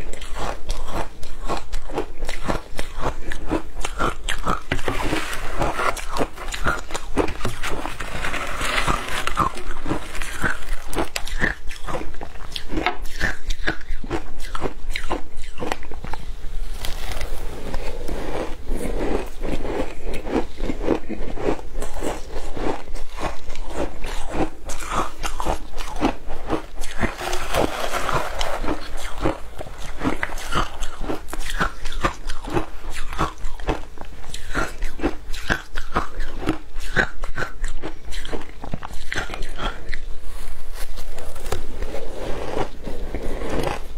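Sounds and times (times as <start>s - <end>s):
crunching and chewing ice: 0.0s - 43.9s.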